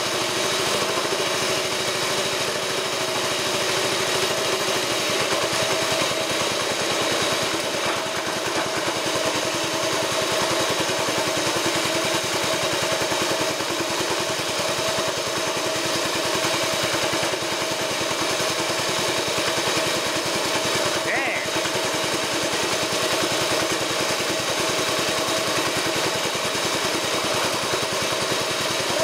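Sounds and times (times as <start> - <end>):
small petrol engine running: 0.0 - 29.0.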